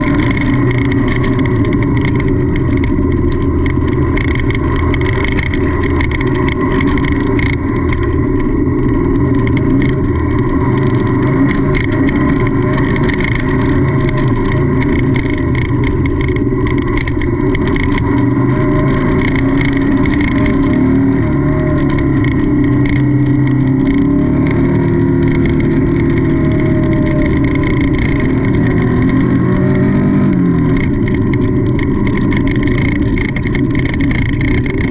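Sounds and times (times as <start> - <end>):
high mechanical clatter: 0.0 - 34.9
race car engine running hard: 0.0 - 34.9.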